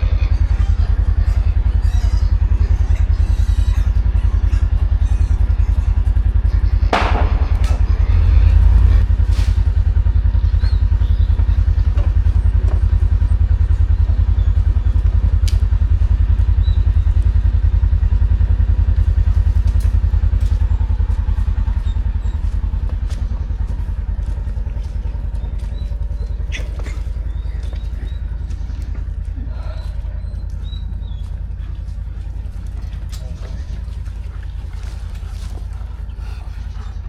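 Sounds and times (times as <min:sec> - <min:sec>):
farm vehicle engine running: 0:00.0 - 0:37.0.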